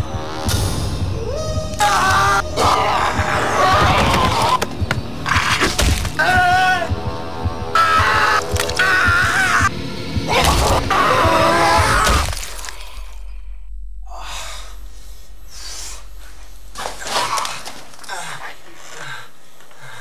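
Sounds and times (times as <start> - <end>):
horror film soundtrack: 0.0 - 20.0.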